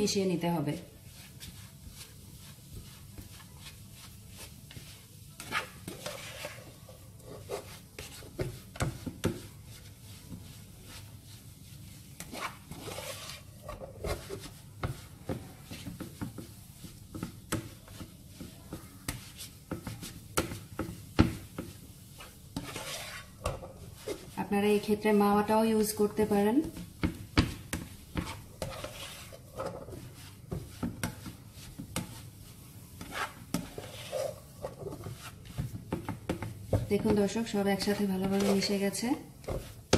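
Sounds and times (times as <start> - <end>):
spatula scraping frying pan: 0.8 - 39.9.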